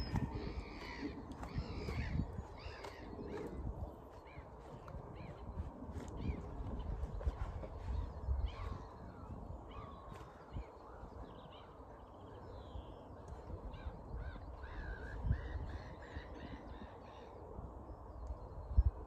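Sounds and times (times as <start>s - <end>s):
birds chirping: 0.0s - 19.0s
wind rumble on microphone: 0.0s - 19.0s.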